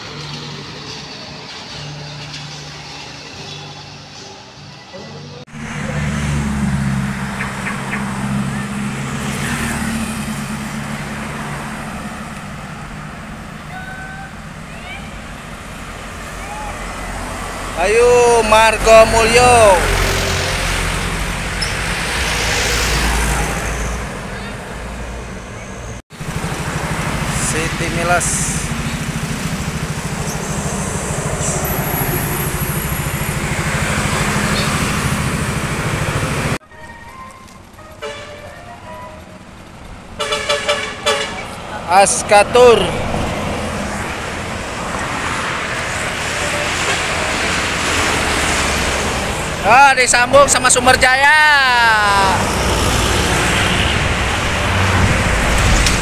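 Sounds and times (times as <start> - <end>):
bus engine humming: 0.0 - 56.0
traffic noise: 0.0 - 56.0.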